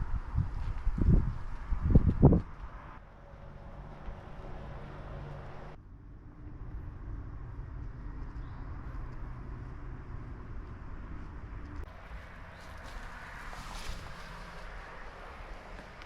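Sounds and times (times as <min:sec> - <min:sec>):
distant construction machinery rumble: 0:02.5 - 0:16.0.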